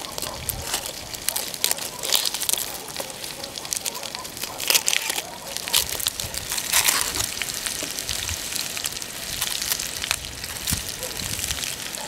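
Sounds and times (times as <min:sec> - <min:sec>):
onion skin crinkling: 0:00.0 - 0:12.0.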